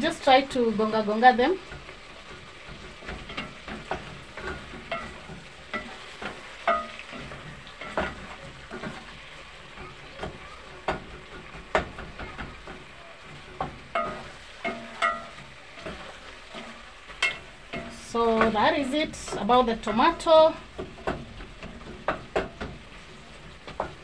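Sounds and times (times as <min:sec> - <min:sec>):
stew sizzling: 0:00.0 - 0:24.0
spoon mashing tomatoes: 0:01.1 - 0:24.0
wooden spoon knocking metal pot: 0:01.2 - 0:24.0.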